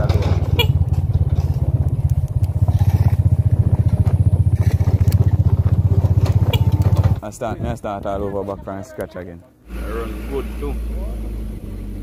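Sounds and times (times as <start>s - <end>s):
engine pulsing rumble: 0.0s - 8.3s, 9.6s - 12.0s.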